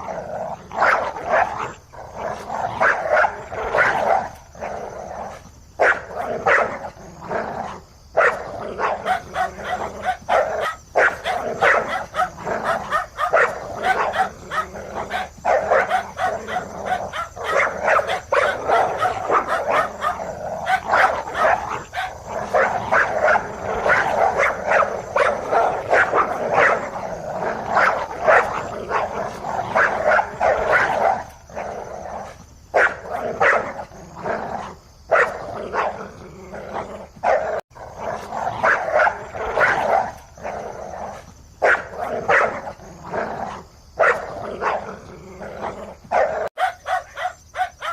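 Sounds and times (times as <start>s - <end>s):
dogs barking: 0.0s - 47.9s.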